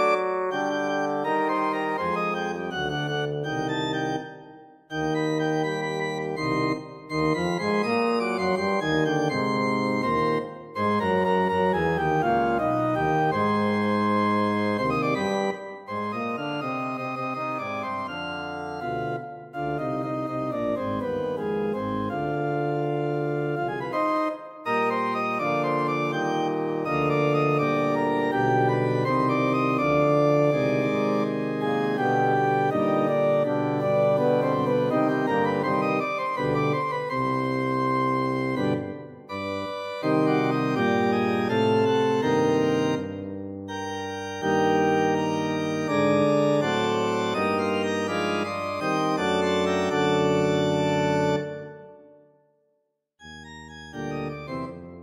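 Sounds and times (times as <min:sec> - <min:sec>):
organ playing sustained chords: 0:00.0 - 0:52.1, 0:53.3 - 0:55.0.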